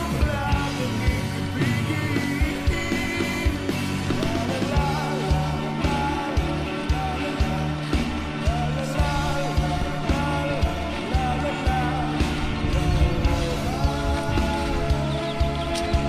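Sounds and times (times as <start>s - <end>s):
rock-pop song with singing: 0.0s - 16.0s.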